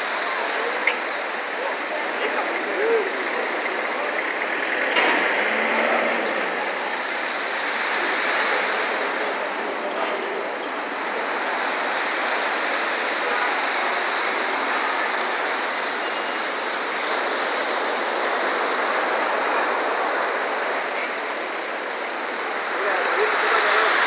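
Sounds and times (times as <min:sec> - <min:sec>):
surf breaking and churning water: 0:00.0 - 0:24.0.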